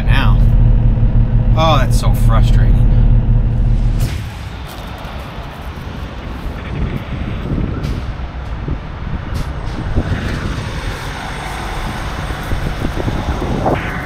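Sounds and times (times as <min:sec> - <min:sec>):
diesel truck engine rumble: 0:00.0 - 0:14.0
traffic: 0:00.0 - 0:14.0
wind buffeting microphone: 0:00.0 - 0:14.0.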